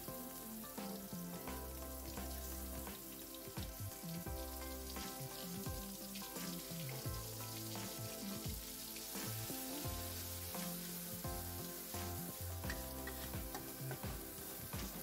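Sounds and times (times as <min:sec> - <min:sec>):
background music with bass line: 0:00.0 - 0:15.0
paste sizzling in hot oil: 0:00.0 - 0:15.0.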